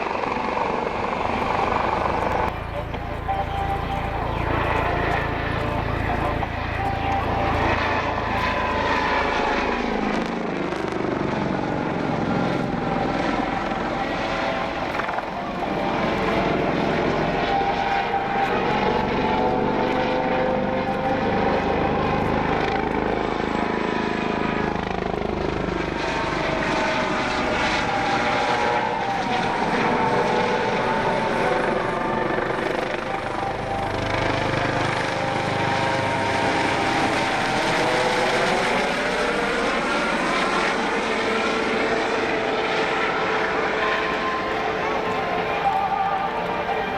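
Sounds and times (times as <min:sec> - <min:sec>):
helicopter engine and rotor: 0:00.0 - 0:46.9.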